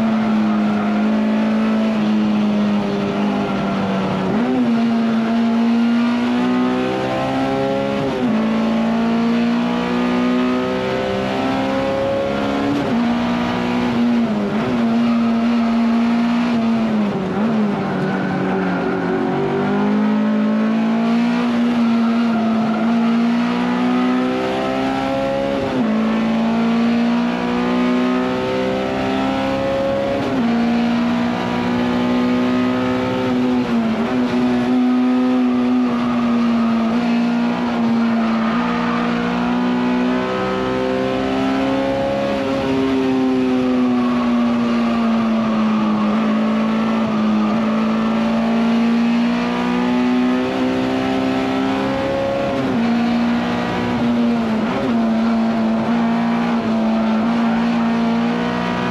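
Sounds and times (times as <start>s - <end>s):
high-revving car engine: 0.0s - 58.9s
road and wind noise: 0.0s - 58.9s.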